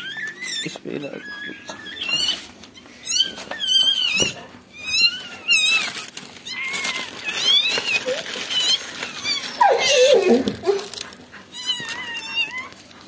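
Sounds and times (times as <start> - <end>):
puppy squealing: 0.0 - 13.0.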